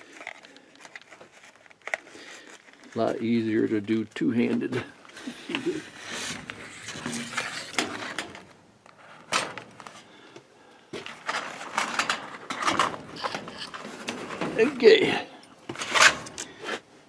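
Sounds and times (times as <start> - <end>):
filter rustling and scraping: 0.0 - 17.0.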